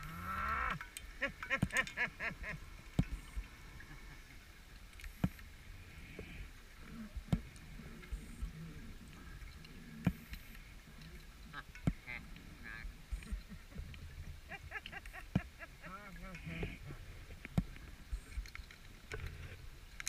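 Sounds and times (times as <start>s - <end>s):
underwater low hum: 0.0s - 20.0s.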